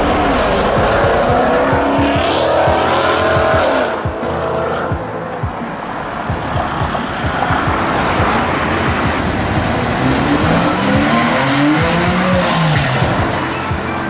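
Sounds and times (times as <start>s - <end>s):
car engine pulling hard: 0.0s - 14.0s
loud street noise: 0.0s - 14.0s.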